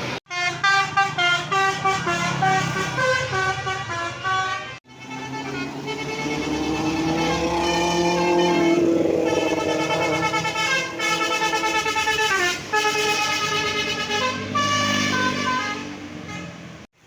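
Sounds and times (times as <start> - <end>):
bus musical horn playing: 0.1 - 16.9.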